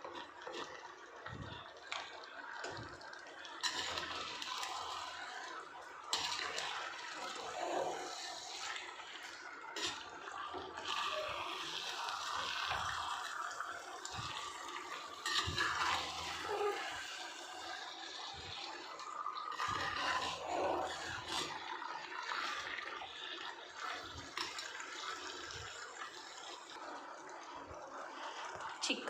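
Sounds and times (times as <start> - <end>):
chicken sizzling in hot oil: 2.4 - 27.2.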